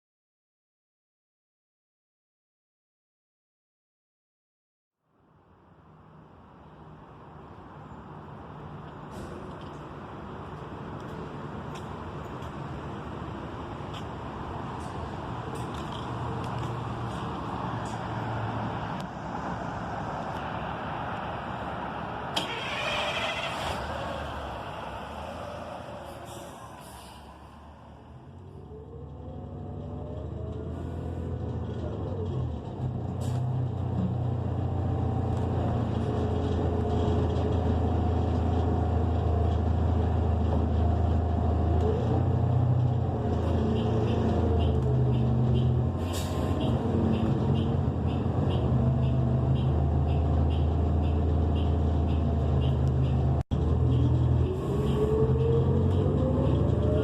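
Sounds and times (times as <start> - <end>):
bus engine pulling away: 5.7 - 57.0.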